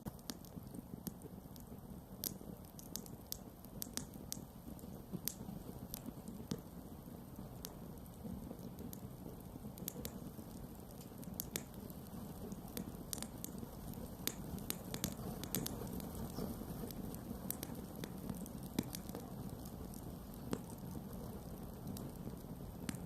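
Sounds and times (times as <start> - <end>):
wood crackling and popping: 0.0 - 23.0.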